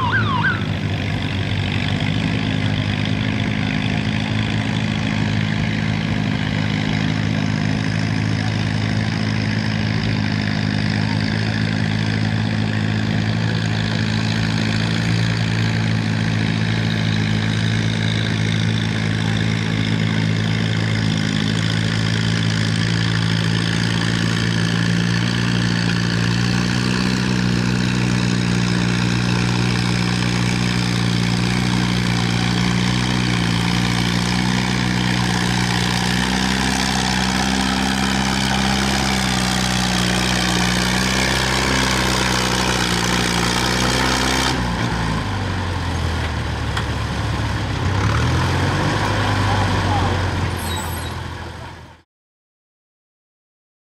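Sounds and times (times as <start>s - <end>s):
tractor engine running hard: 0.0s - 52.0s.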